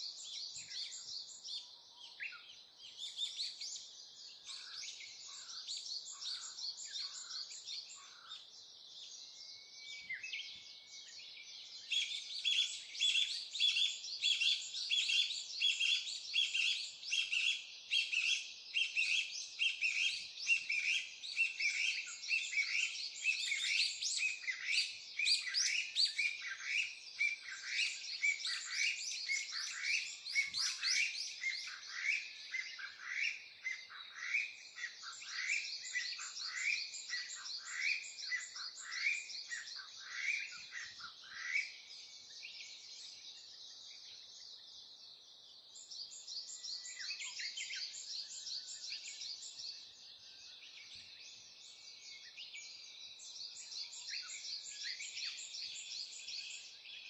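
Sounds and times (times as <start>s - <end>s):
birds chirping and twittering: 0.0s - 57.0s.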